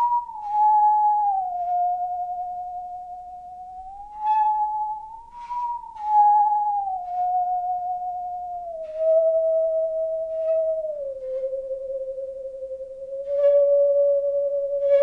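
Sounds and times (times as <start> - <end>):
bow scratch: 0.0 - 15.0
singing saw melody: 0.0 - 15.0.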